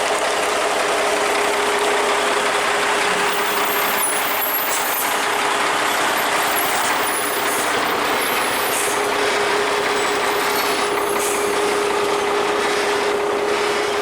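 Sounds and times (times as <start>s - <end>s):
heavy truck rushing noise: 0.1s - 14.0s.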